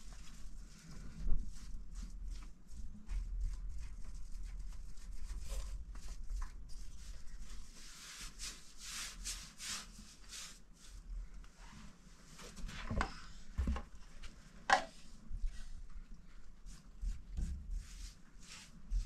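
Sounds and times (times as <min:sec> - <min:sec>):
paintbrush strokes on metal: 0:00.0 - 0:11.9, 0:15.0 - 0:19.0.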